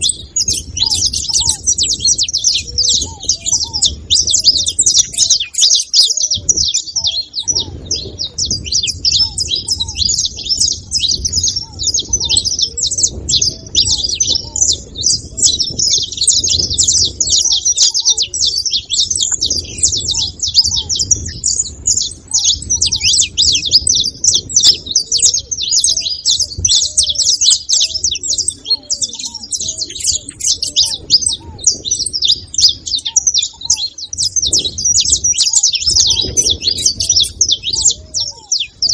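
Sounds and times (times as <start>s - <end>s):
finches chirping and singing: 0.0s - 38.9s.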